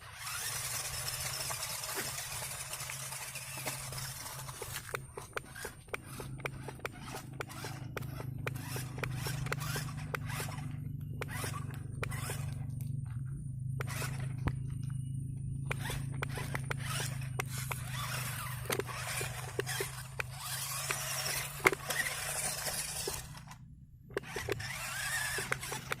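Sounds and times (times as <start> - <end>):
small electric motor humming: 0.0 - 26.0
scraping over dirt and rock: 0.1 - 15.0, 15.7 - 23.6
clicks: 2.8 - 26.0.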